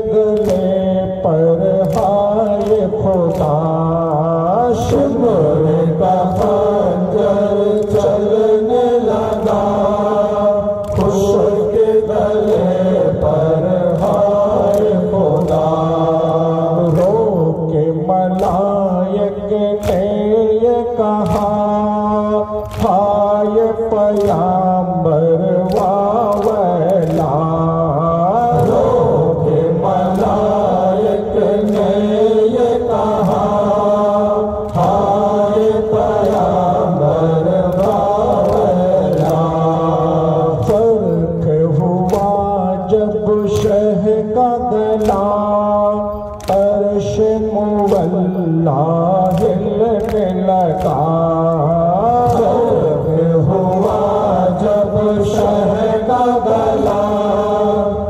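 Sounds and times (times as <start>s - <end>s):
men chanting in unison: 0.0s - 58.0s
chest-beating slaps: 0.2s - 0.8s, 1.7s - 5.4s, 6.1s - 17.3s, 18.3s - 24.8s, 25.5s - 40.9s, 41.5s - 44.2s, 46.2s - 57.6s.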